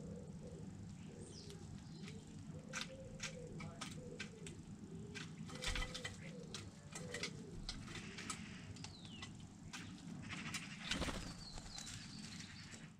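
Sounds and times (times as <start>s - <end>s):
wavering bird calls: 0.0s - 12.9s
starling clicking: 0.8s - 12.9s.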